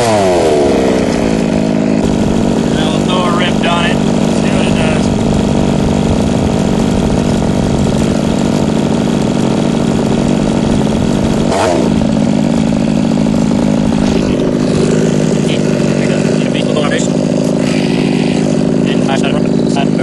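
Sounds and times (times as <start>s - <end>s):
small two-stroke engine running: 0.0s - 20.0s.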